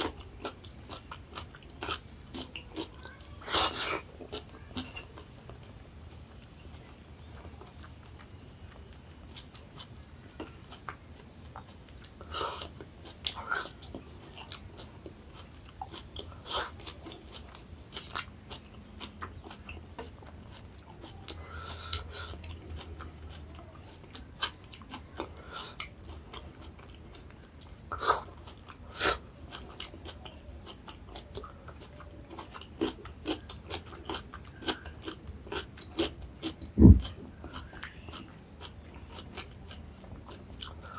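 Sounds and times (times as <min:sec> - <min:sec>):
close chewing with lip smacks: 0:00.0 - 0:40.9.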